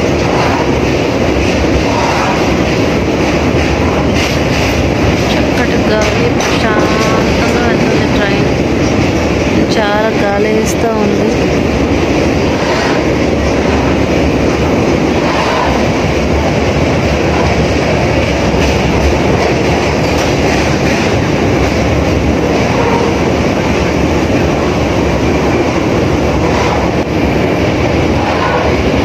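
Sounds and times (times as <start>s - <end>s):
train wheels on bridge rails: 0.0s - 29.0s.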